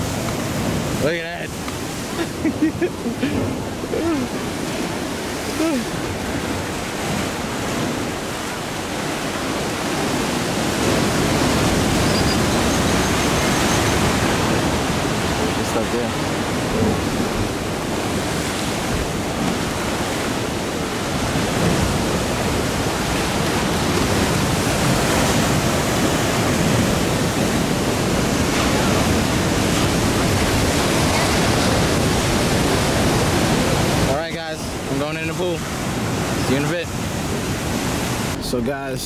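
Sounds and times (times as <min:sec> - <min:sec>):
wind on microphone: 0:00.0 - 0:34.1
surf washing against rocks: 0:00.0 - 0:39.0.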